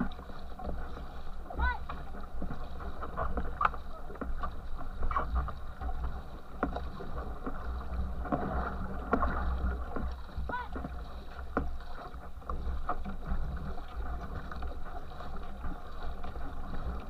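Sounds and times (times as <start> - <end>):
paddle stroke splashes: 0.0 - 17.0
water rushing past canoe: 0.0 - 17.0.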